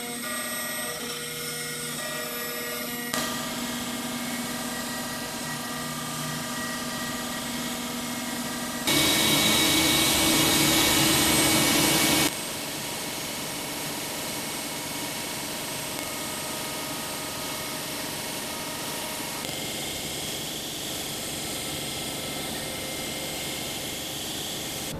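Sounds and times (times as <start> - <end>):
hissy metal cutting noise: 0.0 - 24.9
router spindle whine: 0.0 - 24.9.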